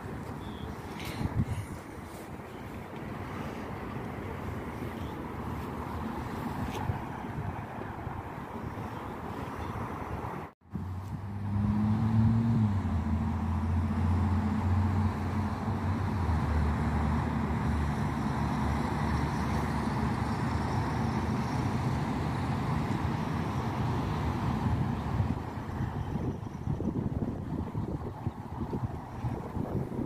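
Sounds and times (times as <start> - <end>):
background traffic noise: 0.0 - 30.0.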